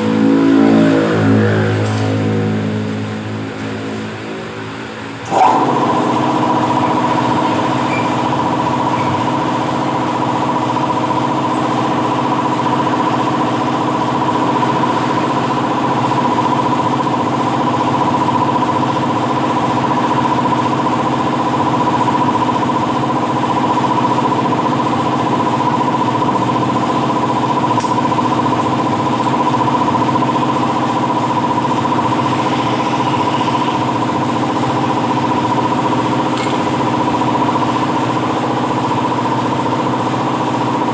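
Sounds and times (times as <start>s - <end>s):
motor running with whine: 0.0s - 40.9s.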